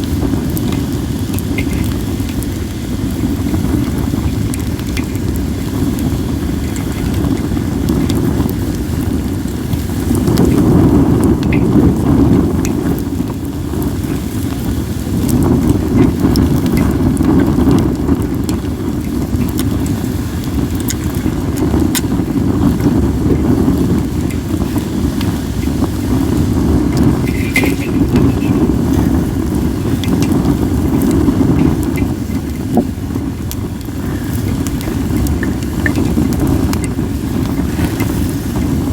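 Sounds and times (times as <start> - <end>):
wind buffeting microphone: 0.0 - 38.9
wood fire crackling and popping: 0.0 - 38.9.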